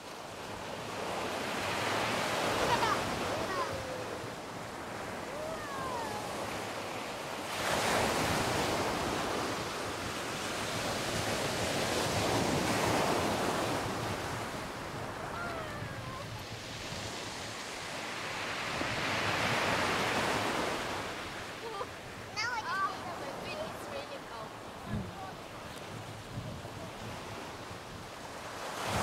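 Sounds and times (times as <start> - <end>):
sea waves breaking on beach: 0.0 - 29.0.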